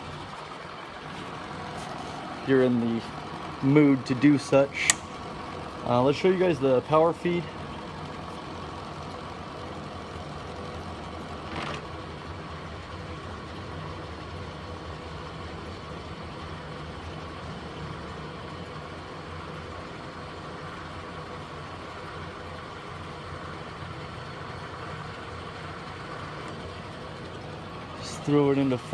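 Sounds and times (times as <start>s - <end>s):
milling machine humming: 0.0s - 28.9s.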